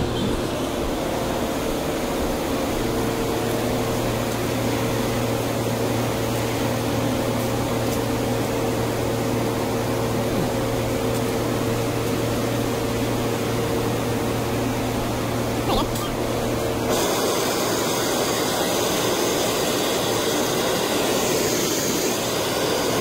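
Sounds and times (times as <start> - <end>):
burners and blowers humming: 0.0 - 23.0.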